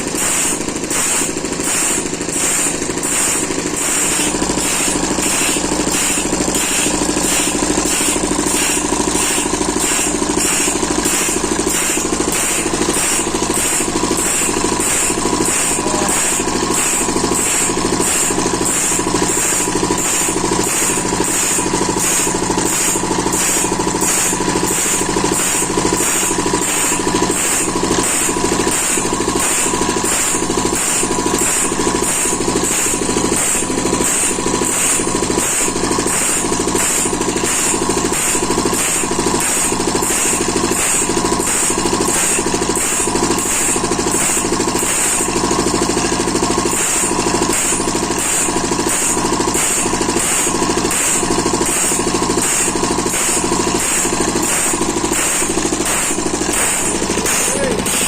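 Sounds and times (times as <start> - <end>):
grinder sharpening saw blade: 0.0 - 58.0.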